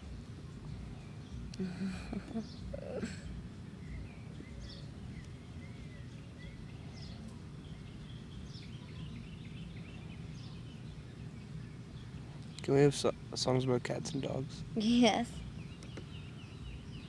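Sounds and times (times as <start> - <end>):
faint birds chirping: 0.0 - 17.0
low outdoor rumble: 0.0 - 17.0.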